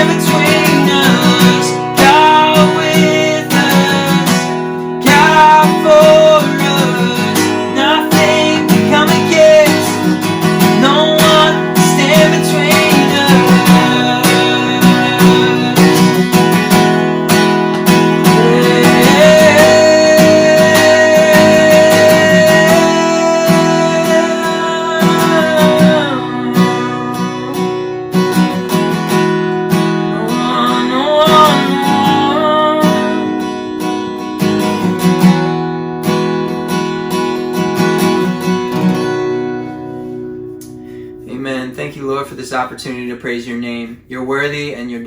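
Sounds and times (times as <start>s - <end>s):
strummed acoustic guitar: 0.0s - 45.0s.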